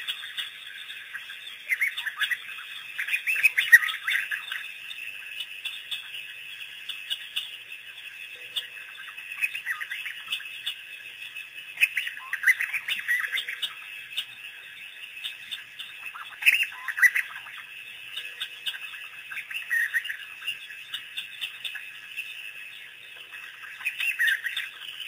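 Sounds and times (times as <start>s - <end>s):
wild dogs chirping: 0.0s - 25.0s.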